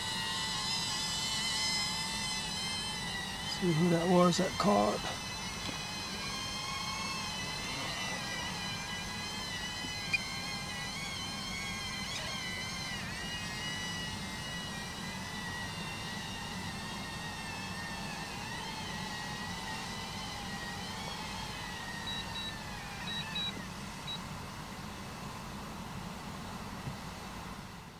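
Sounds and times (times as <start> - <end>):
drone propellers whining: 0.0 - 27.9
steady low hum: 0.0 - 27.9.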